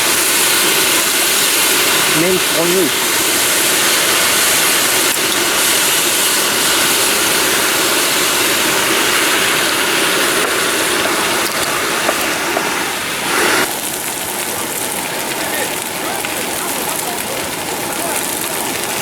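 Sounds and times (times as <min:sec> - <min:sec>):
noodles sizzling on a griddle: 0:00.0 - 0:19.0.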